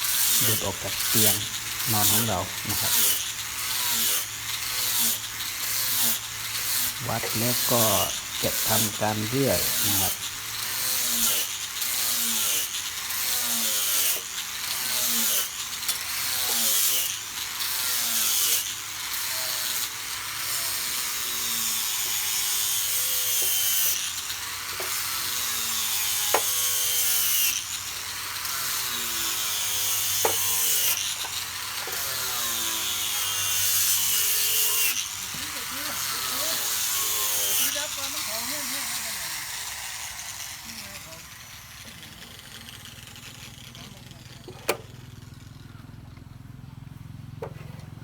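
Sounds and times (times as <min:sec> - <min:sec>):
saw cutting wood: 0:00.0 - 0:45.9, 0:47.4 - 0:48.0.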